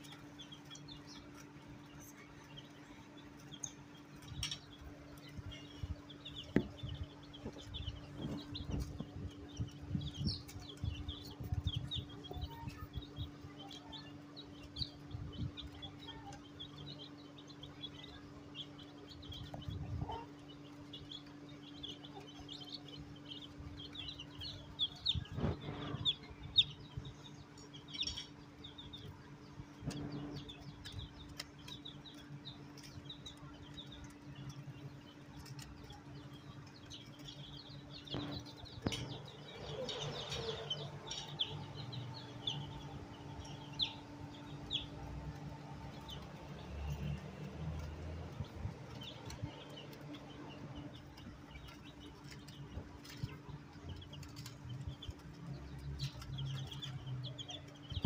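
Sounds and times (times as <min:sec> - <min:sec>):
chicks peeping: 0:00.0 - 0:58.0
steady low hum: 0:00.0 - 0:58.0.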